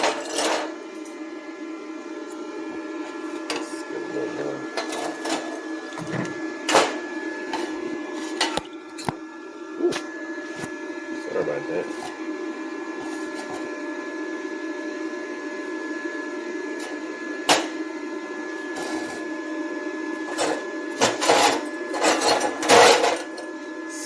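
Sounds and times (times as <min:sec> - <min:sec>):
cooling fan humming: 0:00.0 - 0:24.0.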